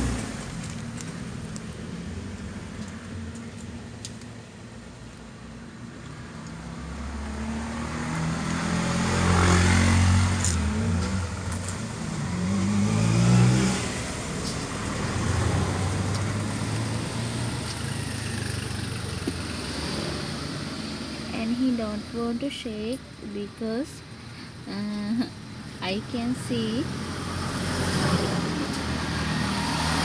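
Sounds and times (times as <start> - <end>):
vehicle engines passing by: 0.0 - 30.0.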